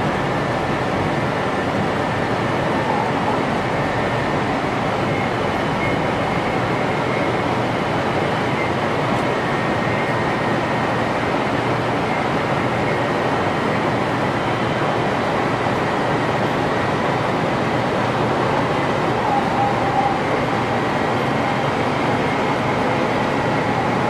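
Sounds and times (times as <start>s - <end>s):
train wheel and air noise: 0.0s - 24.0s.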